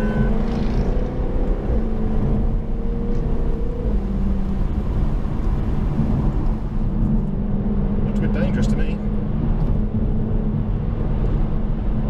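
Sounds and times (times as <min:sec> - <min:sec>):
car engine cruising: 0:00.0 - 0:12.0
low road rumble: 0:00.0 - 0:12.0.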